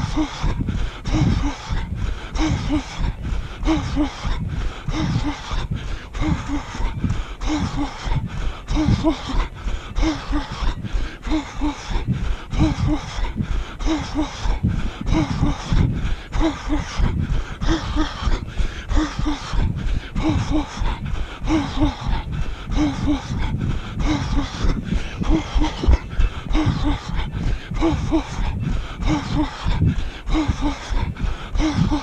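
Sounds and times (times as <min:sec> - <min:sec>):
runner heavy breathing: 0:00.0 - 0:32.0.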